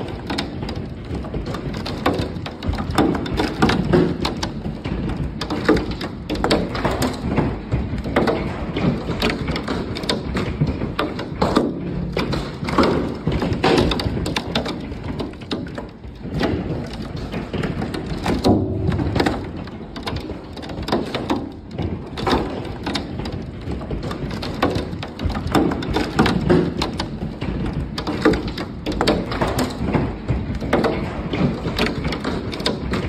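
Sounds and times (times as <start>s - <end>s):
hailstones clattering on wood: 0.0s - 33.0s.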